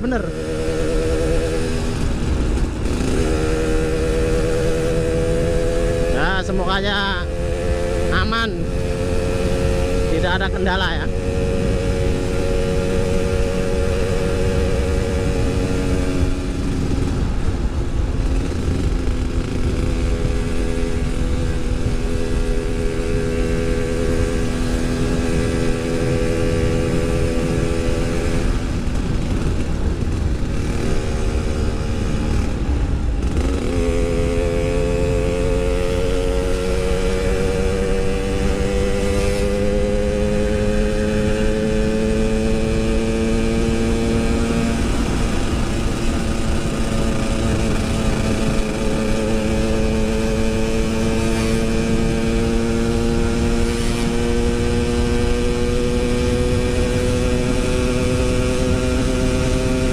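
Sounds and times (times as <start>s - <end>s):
motorcycle engine running: 0.0s - 59.9s
wind rumble: 0.0s - 59.9s.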